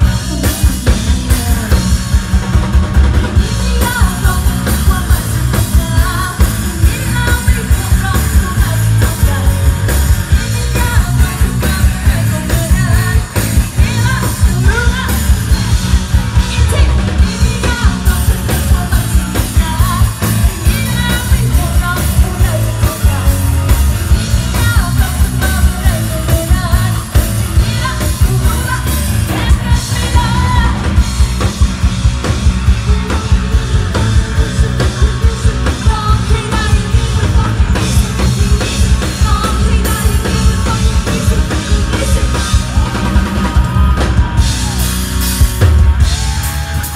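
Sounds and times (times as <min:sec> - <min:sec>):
woman singing: 0:00.0 - 0:02.2, 0:03.4 - 0:31.1, 0:32.6 - 0:44.0
driving drum beat: 0:00.0 - 0:46.9
live rock band playing: 0:00.0 - 0:46.9.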